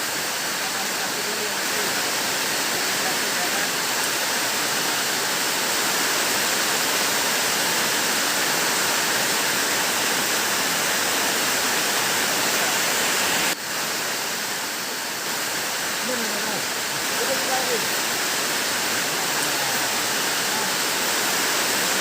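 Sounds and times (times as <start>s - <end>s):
heavy rain hiss: 0.0s - 22.0s.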